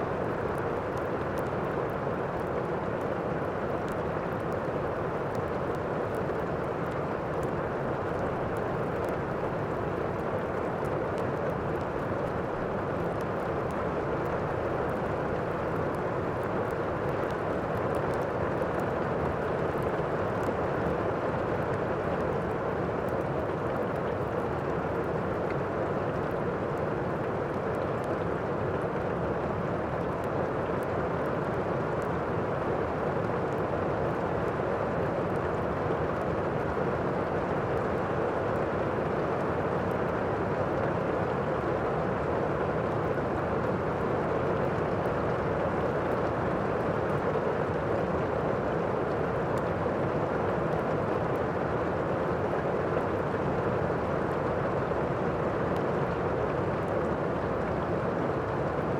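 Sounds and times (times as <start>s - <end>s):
fireplace fire crackles: 0.0s - 58.9s
steady rain: 0.0s - 58.9s.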